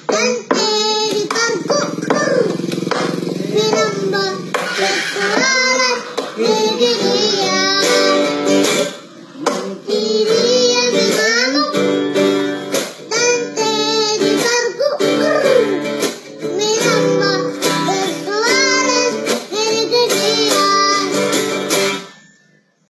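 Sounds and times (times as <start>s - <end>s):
boy singing: 0.0s - 21.5s
acoustic guitar strumming: 0.0s - 22.6s.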